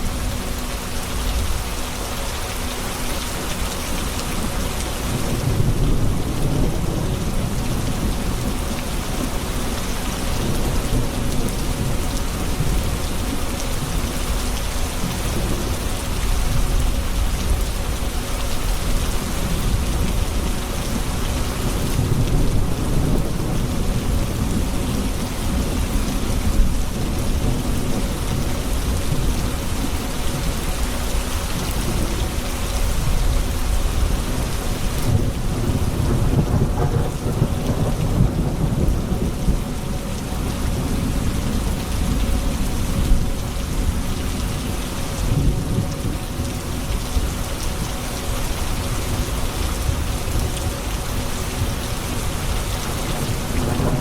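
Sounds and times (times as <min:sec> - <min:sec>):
rain falling on surfaces: 0:00.0 - 0:54.0
low rolling thunder: 0:04.4 - 0:14.0, 0:19.1 - 0:30.9, 0:31.6 - 0:54.0.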